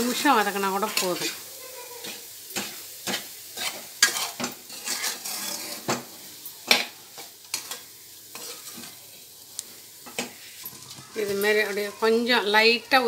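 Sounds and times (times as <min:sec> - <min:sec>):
ghee sizzling: 0:00.0 - 0:13.0
spoon scraping in a pan: 0:00.8 - 0:12.2.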